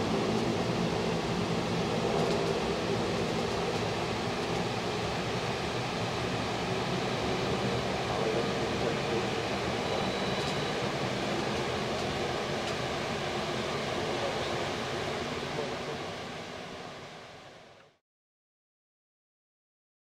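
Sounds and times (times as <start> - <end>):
distant jet airliner rumble: 0.0 - 17.4.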